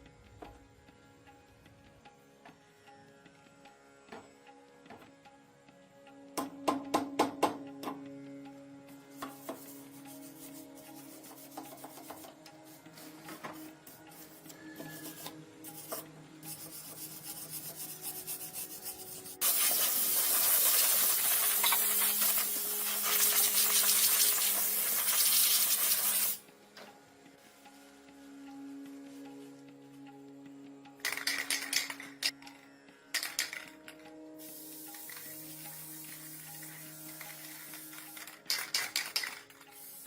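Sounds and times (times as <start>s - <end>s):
background music: 0.0s - 40.0s.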